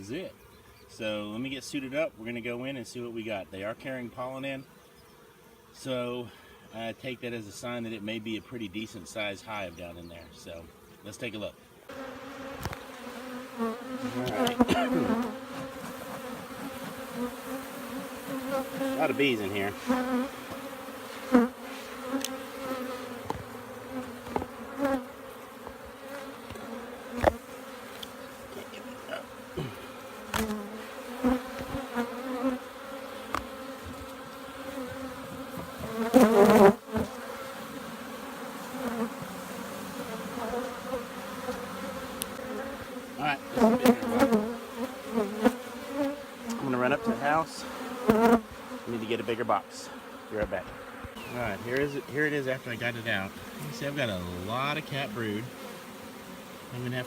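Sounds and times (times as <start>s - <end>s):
bee colony buzzing: 0.0s - 57.0s.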